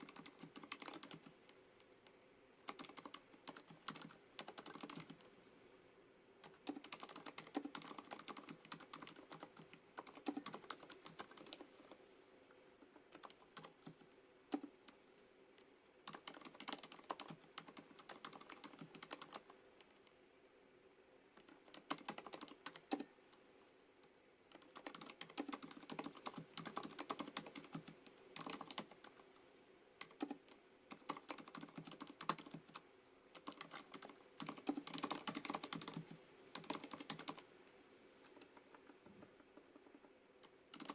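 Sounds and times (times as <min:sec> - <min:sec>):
soft mechanical keyboard typing: 0:00.0 - 0:05.4, 0:06.4 - 0:20.2, 0:21.3 - 0:37.5, 0:38.2 - 0:40.9.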